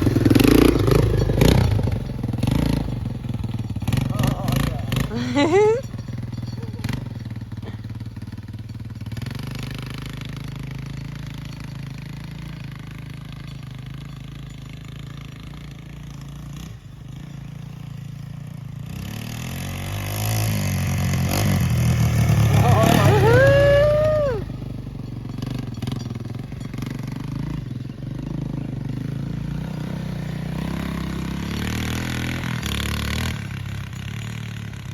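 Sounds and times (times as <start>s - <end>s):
engine running and revving: 0.0s - 34.9s.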